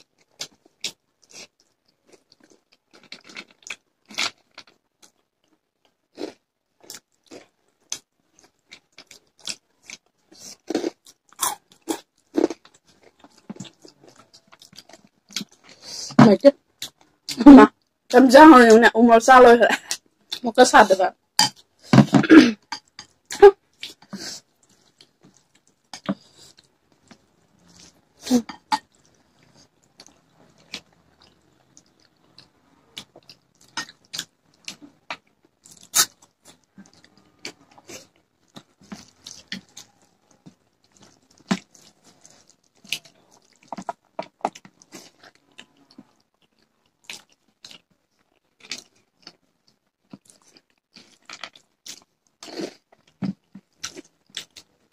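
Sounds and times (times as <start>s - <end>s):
people chewing: 0.0s - 16.2s, 21.4s - 54.9s.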